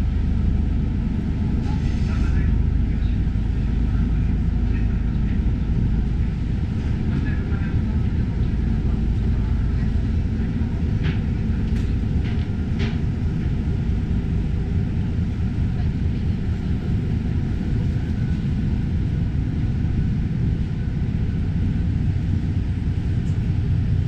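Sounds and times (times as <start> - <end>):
ferry engines rumbling: 0.0 - 24.0.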